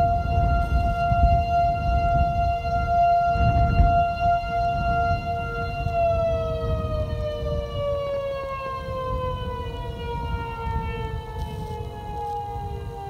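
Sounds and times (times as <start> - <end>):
lower steady siren tone: 0.0 - 13.0
warning siren wailing: 0.0 - 13.0.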